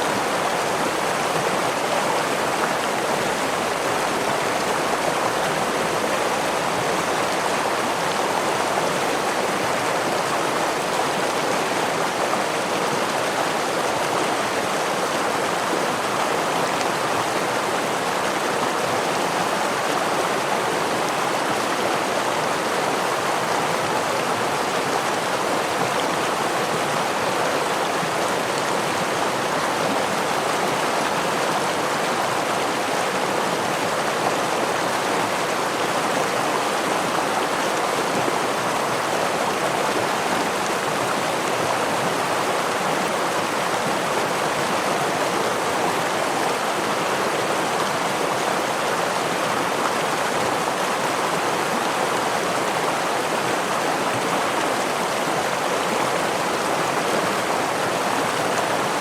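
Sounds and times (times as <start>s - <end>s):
stream water falling over waterfall: 0.0s - 59.0s.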